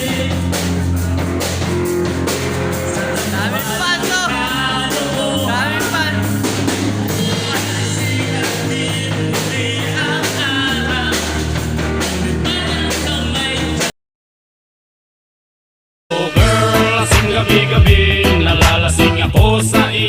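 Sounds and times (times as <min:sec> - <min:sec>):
rock music with singing: 0:00.0 - 0:13.9, 0:16.1 - 0:20.0.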